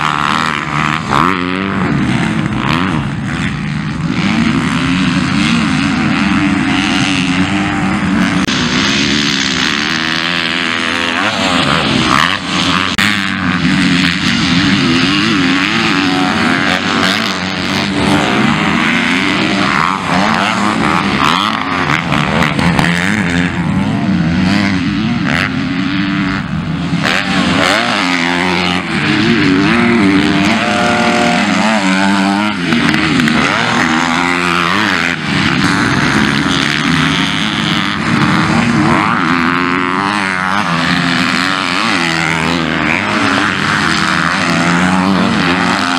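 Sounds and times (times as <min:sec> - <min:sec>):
motocross bikes revving: 0:00.0 - 0:45.9.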